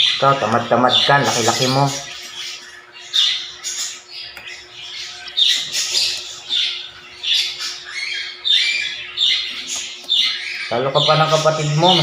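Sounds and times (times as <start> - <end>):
lovebirds squawking: 0.0 - 12.0.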